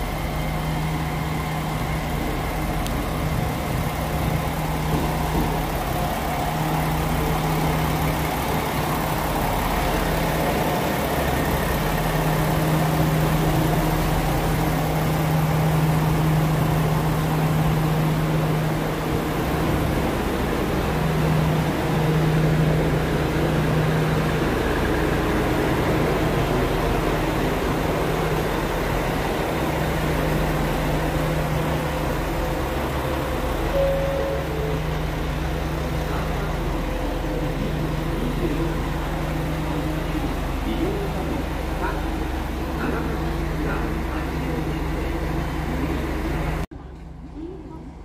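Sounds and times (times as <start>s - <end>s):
diesel engine humming: 0.0s - 48.0s.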